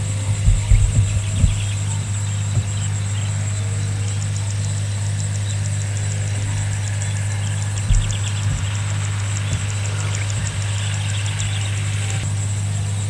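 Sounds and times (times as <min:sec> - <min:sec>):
dull low bumps: 0:00.0 - 0:12.4
low machine hum: 0:00.0 - 0:13.0
rapid high ticking: 0:00.0 - 0:13.0.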